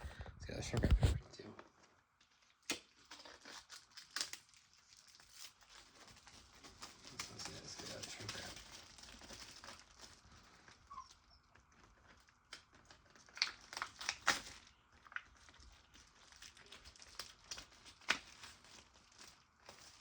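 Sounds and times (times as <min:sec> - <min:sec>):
plastic wrap crinkling: 0:00.7 - 0:20.0.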